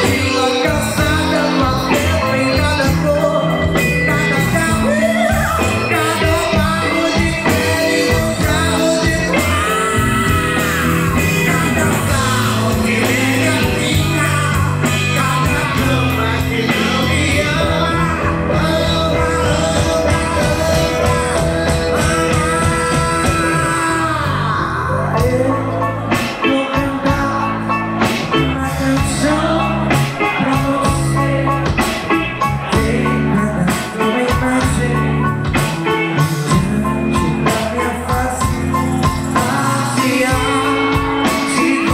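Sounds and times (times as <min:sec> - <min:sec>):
live band playing: 0:00.0 - 0:41.9
person singing: 0:00.0 - 0:41.9.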